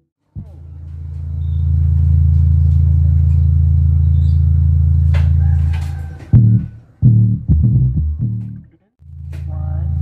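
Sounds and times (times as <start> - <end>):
deep bass drone from subwoofers: 0.0 - 10.0.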